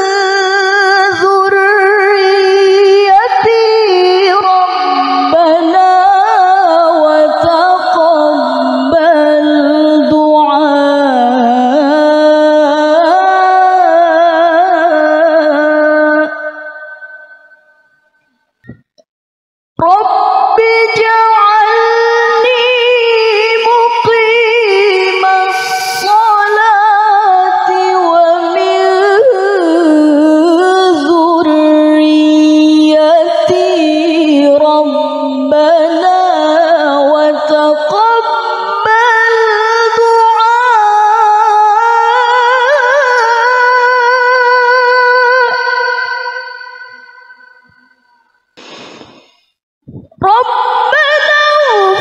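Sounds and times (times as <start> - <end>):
woman chanting into a microphone: 0.0 - 16.4, 19.8 - 47.5, 49.9 - 52.0.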